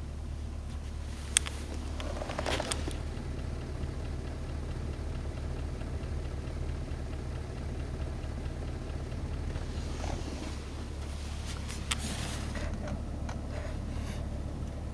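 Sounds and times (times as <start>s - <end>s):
car engine idling: 0.0s - 14.9s
engine ticking: 0.0s - 14.9s.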